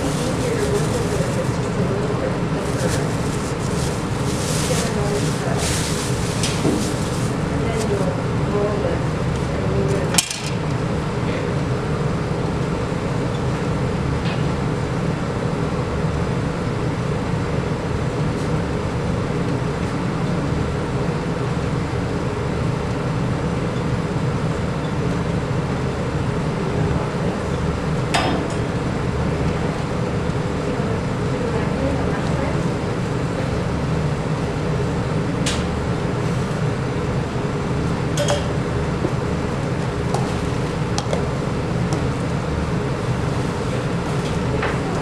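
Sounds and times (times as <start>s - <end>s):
loud mechanical hum: 0.0s - 45.0s.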